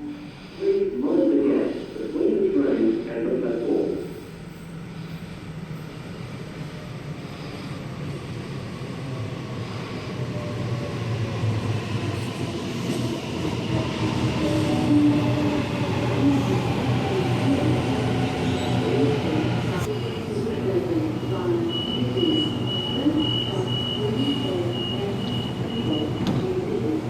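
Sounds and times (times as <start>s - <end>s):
electric train approaching: 4.5s - 27.0s.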